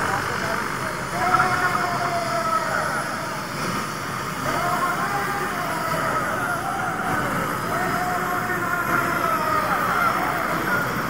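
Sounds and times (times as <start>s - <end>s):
helicopter engine and rotor noise: 0.0s - 11.0s.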